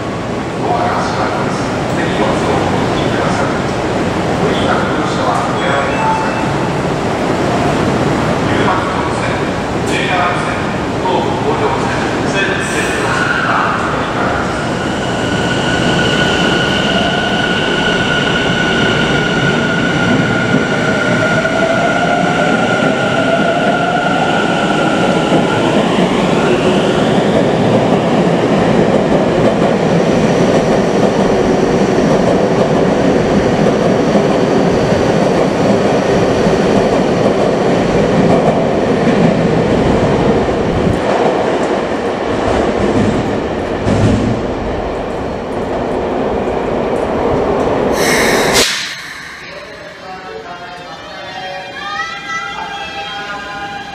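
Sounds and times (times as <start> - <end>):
train wheels rumbling on rails: 6.6 - 51.0.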